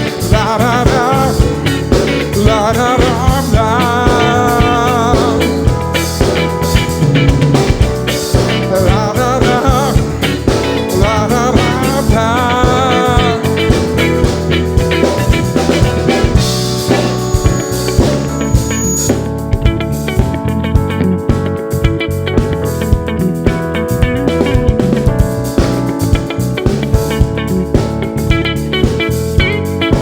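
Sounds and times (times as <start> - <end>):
bass: 0.0 - 30.0
drum kit beat: 0.0 - 30.0
wavering lead melody: 0.0 - 30.0.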